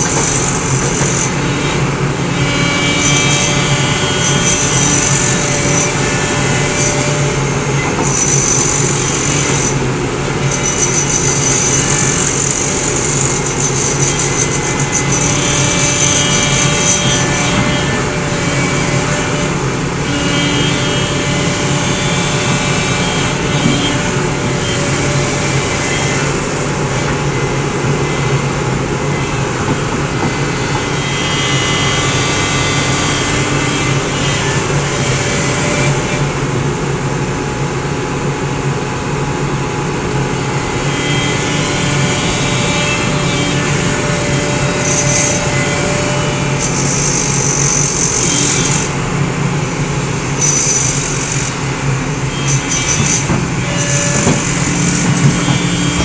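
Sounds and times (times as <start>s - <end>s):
excavator diesel engine: 0.0s - 35.3s, 35.9s - 56.0s
hydraulic whine: 0.0s - 56.0s.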